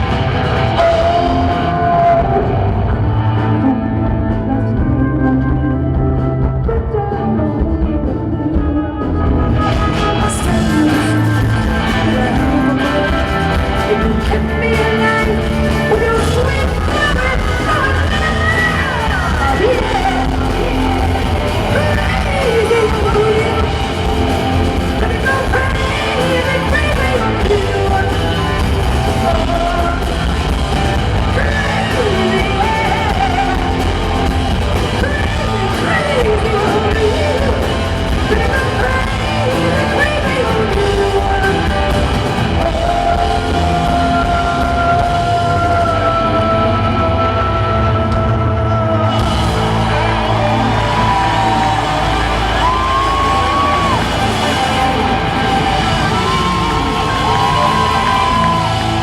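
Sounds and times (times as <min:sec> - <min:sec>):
live rock band playing: 0:00.0 - 0:59.0
woman singing lead: 0:00.0 - 0:59.0.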